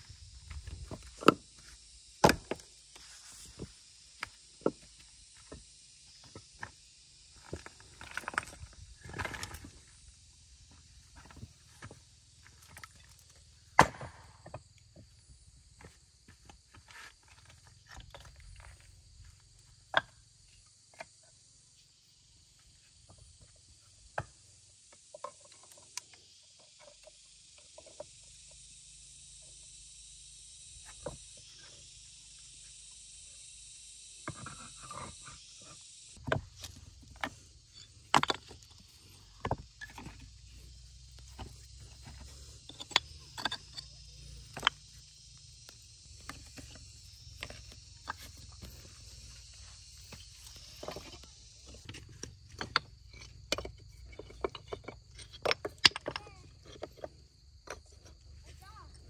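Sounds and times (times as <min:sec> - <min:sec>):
high insect drone: 0:00.0 - 0:59.0.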